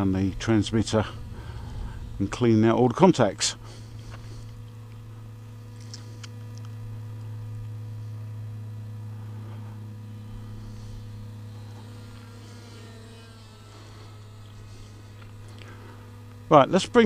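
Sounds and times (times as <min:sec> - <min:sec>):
higher whine: 0:00.0 - 0:17.0
model plane propellers droning: 0:00.0 - 0:17.0.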